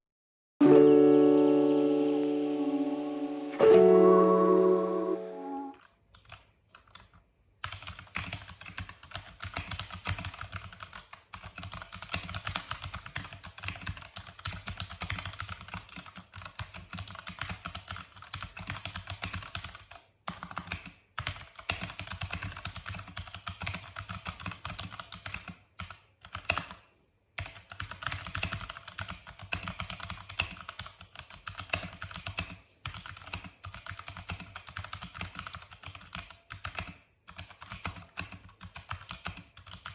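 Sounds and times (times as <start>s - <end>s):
mechanical keyboard typing: 5.8s - 39.9s.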